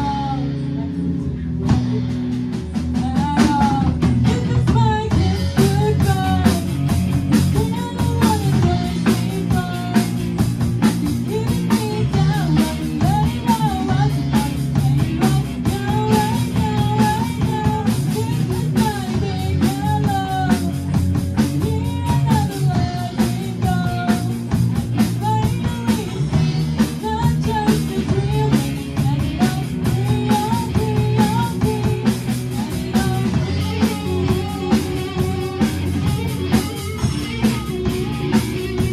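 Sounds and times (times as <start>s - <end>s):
girl singing lead: 0.0s - 1.0s, 1.6s - 38.9s
rock band playing live: 0.0s - 38.9s.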